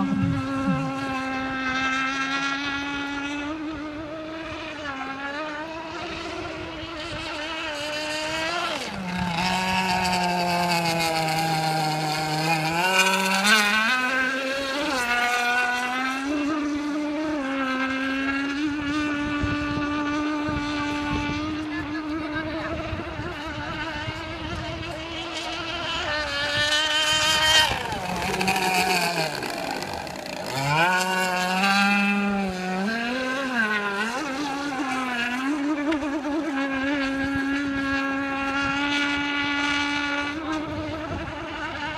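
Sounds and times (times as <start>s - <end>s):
model boat motor whining: 0.0s - 41.9s.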